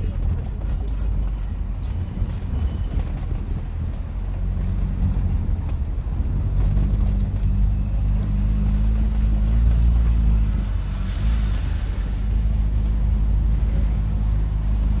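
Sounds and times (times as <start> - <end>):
car exhaust low drone: 0.0 - 15.0.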